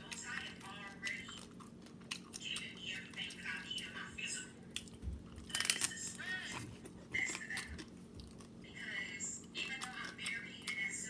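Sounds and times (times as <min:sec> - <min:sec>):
chewing and biting food: 0:00.0 - 0:11.0
food crunch: 0:00.0 - 0:11.0.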